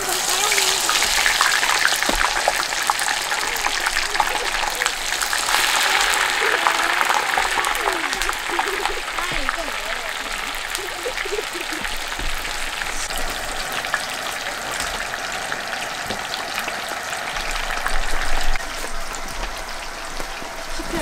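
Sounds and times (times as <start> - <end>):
food deep-frying in hot oil: 0.0 - 21.0.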